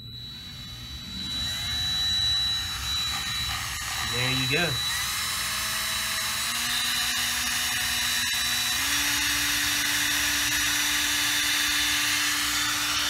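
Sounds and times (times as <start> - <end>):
cordless drill motor running: 0.0 - 13.0.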